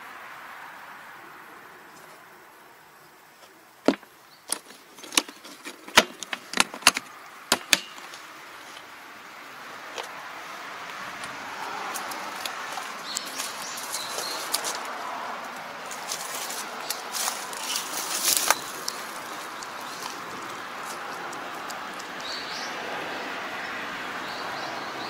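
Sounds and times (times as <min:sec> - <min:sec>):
soft steady rushing noise: 0:00.0 - 0:24.6.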